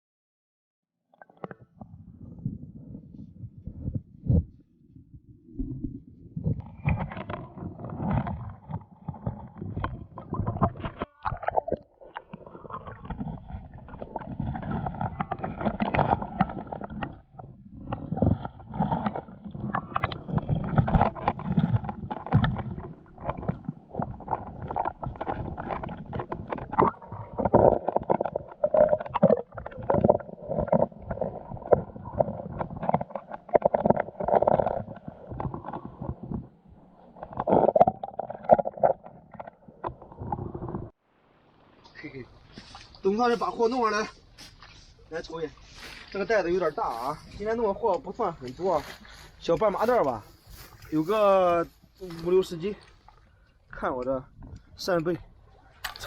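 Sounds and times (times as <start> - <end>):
water gurgling and sloshing: 1.1 - 56.0.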